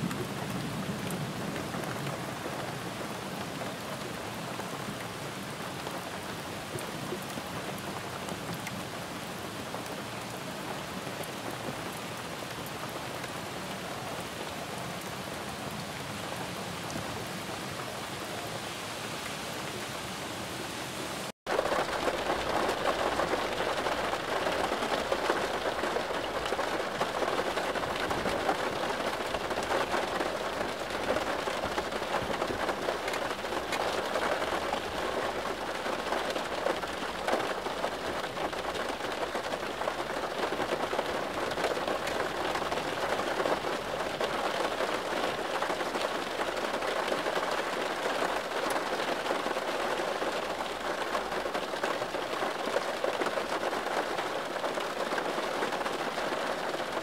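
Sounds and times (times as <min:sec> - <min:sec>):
heavy downpour: 0:00.0 - 0:57.0
steady rain falling: 0:00.0 - 0:57.0.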